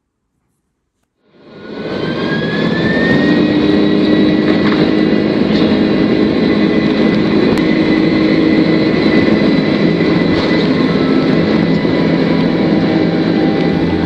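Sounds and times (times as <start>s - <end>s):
jet engine roar with whine: 1.2s - 14.0s.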